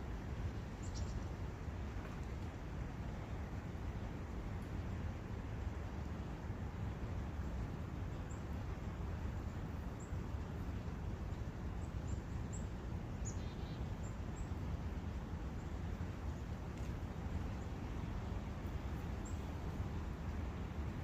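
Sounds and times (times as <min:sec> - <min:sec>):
brook water: 0:00.0 - 0:21.0
wind: 0:00.0 - 0:21.0.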